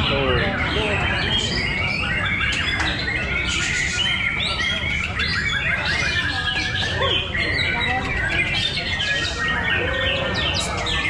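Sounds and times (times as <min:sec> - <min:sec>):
songbirds singing and chirping: 0:00.0 - 0:11.0.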